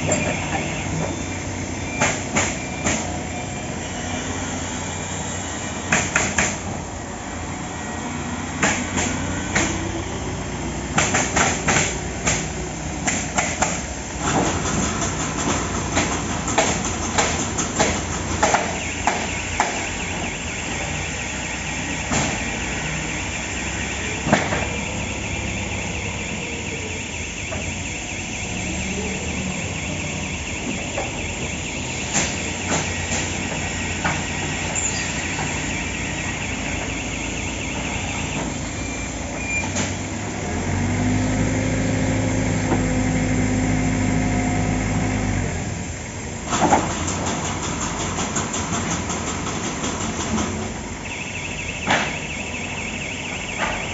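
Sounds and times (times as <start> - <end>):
pallet nailing machine running: 0.0 - 6.8, 8.6 - 40.2, 46.5 - 53.9.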